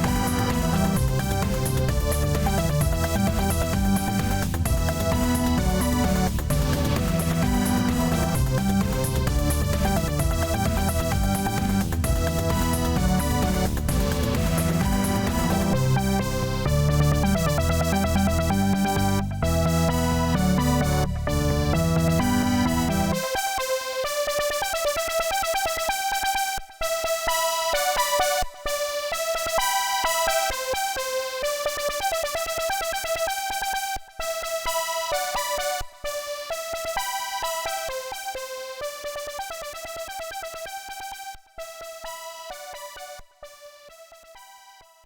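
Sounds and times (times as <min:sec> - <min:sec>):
synthesizer keyboard music: 0:00.0 - 0:44.9.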